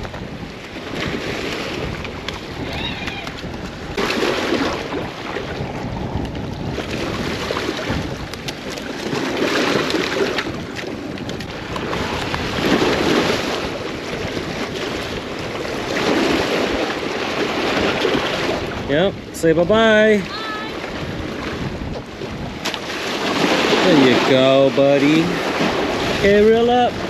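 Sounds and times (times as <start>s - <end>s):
small waves at shore: 0.0s - 27.0s
wind on microphone: 0.0s - 27.0s.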